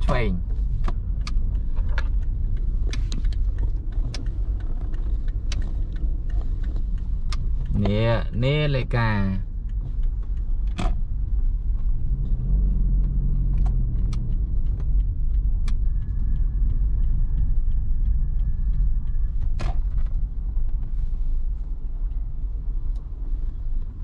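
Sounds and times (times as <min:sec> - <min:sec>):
sharp clicks and knocks in cabin: 0:00.0 - 0:21.0
engine and road rumble: 0:00.0 - 0:24.0.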